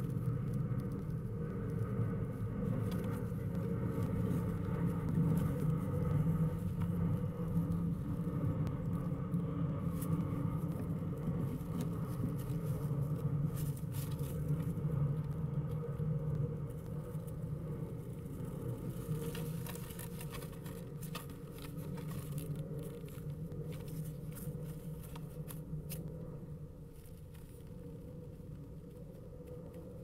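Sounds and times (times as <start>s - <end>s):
light scratches and taps: 0.0s - 26.3s
low rumble: 0.0s - 30.0s.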